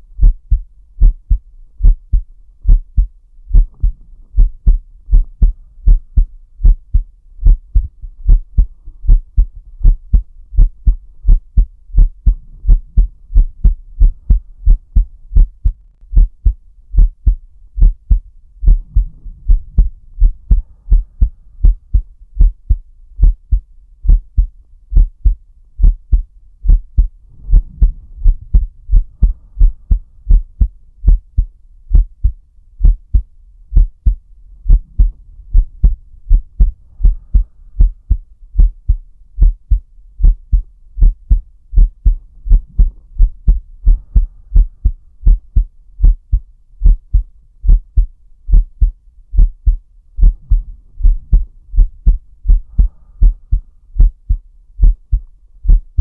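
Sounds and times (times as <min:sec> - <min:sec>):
heartbeat: 0:00.0 - 0:56.0
soft breaths: 0:00.2 - 0:15.5, 0:17.3 - 0:23.4, 0:24.1 - 0:39.0, 0:40.3 - 0:56.0.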